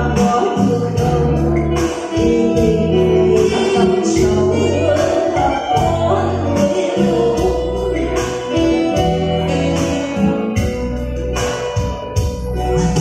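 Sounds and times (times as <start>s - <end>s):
woman singing into a microphone: 0.0s - 11.2s
bass line: 0.0s - 13.0s
electric keyboard and guitar band: 0.0s - 13.0s.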